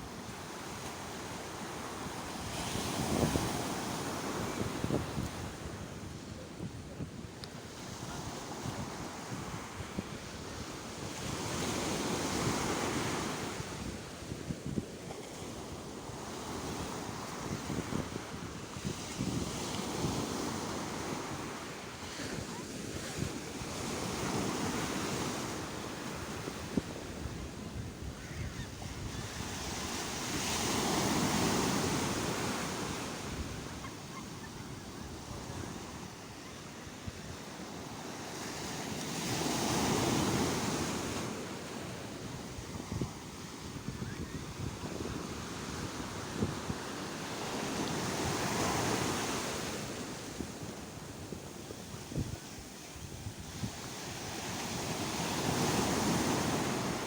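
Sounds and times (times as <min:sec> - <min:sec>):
sea waves washing ashore: 0:00.0 - 0:57.0.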